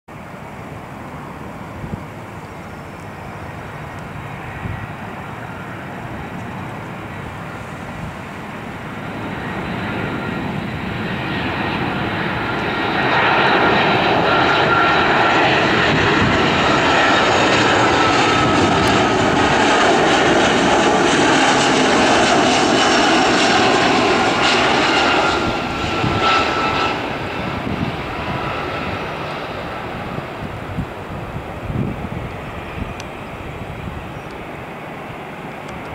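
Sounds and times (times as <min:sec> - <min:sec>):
jet airliner flying overhead: 0:00.1 - 0:35.9.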